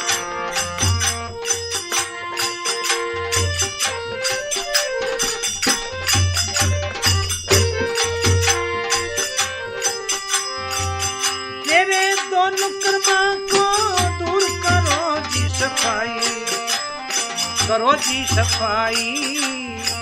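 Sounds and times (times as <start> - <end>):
held melody notes: 0.0 - 20.0
jingling percussion: 0.0 - 20.0.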